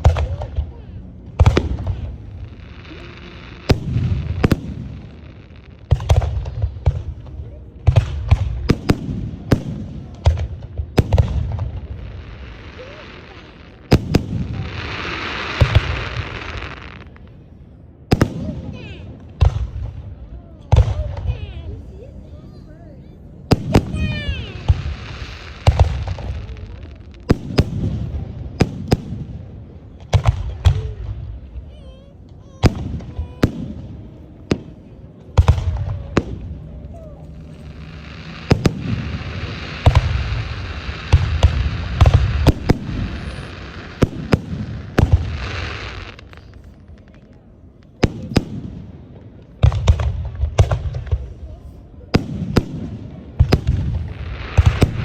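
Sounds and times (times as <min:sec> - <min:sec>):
fireworks bursting in sharp bangs: 0:00.0 - 0:21.8, 0:23.4 - 0:55.0.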